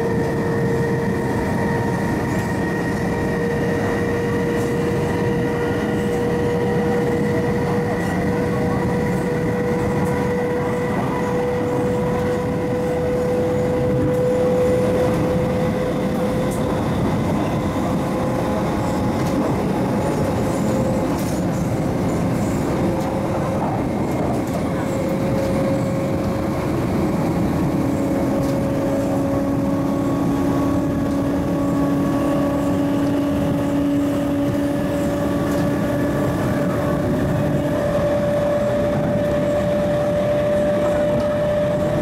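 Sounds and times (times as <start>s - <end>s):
train traction motor whine: 0.0s - 42.0s
wheels rumbling on rail: 0.0s - 42.0s.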